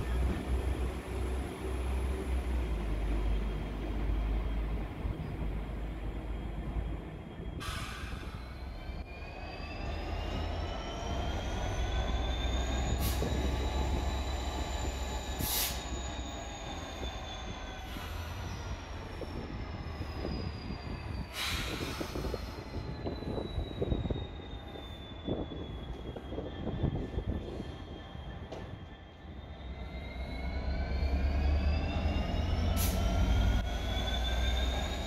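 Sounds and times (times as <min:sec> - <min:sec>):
locomotive engine rumble: 0:00.0 - 0:35.0
train wheels squealing: 0:00.0 - 0:35.0.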